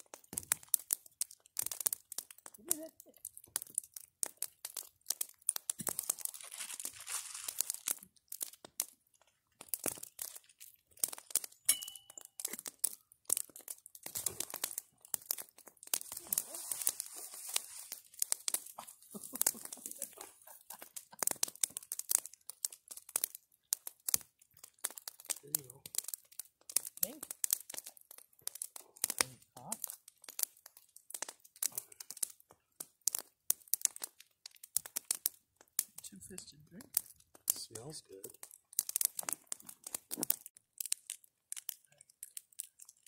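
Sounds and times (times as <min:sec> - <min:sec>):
campfire crackling and popping: 0:00.0 - 0:43.0
soft hissing of fire: 0:00.0 - 0:43.0.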